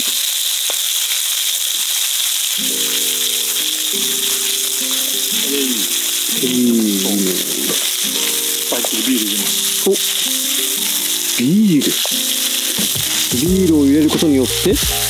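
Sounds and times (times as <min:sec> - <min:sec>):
chicken sizzling in a frying pan: 0:00.0 - 0:15.0
background music of low notes: 0:02.6 - 0:15.0.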